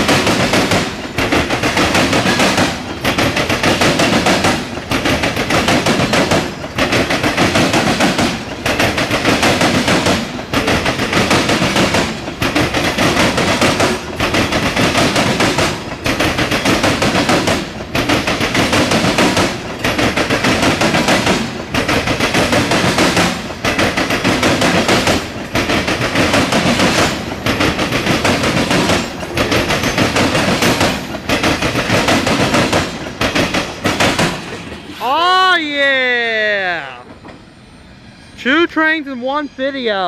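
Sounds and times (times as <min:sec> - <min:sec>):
train wheels clattering over crossing: 0:00.0 - 0:35.0, 0:36.9 - 0:37.8.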